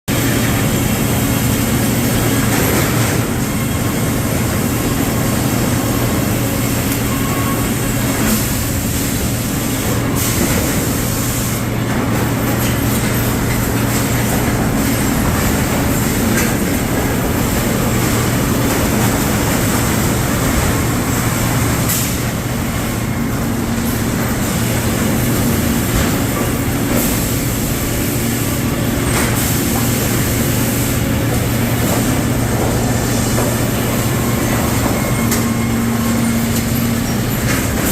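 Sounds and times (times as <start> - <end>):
sawmill machinery drone: 0.1 - 37.9.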